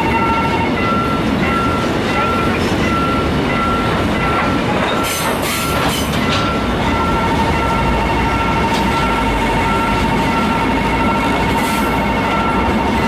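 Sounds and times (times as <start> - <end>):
crossing warning bell ringing: 0.0 - 13.0
steady high tone: 0.0 - 13.0
train wheels rumbling on rails: 0.0 - 13.0.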